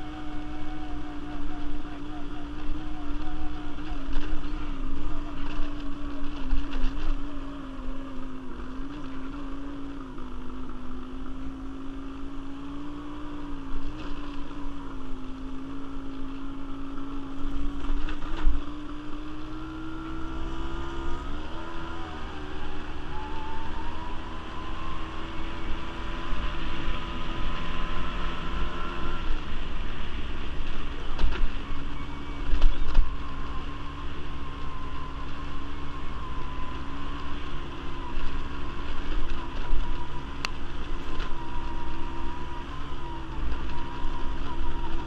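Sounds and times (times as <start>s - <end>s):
quad bike engine running: 0.0s - 45.0s.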